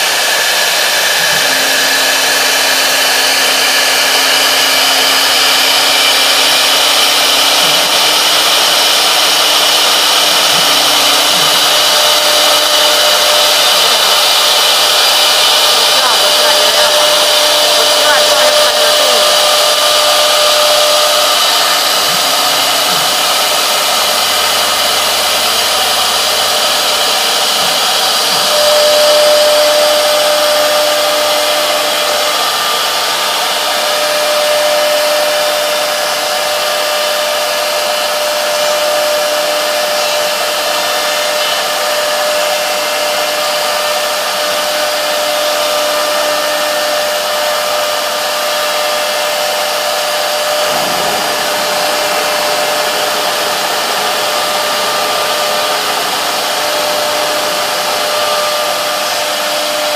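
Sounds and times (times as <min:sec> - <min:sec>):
cutter hissing: 0:00.0 - 0:59.9
wood router spindle whine: 0:00.0 - 0:59.9.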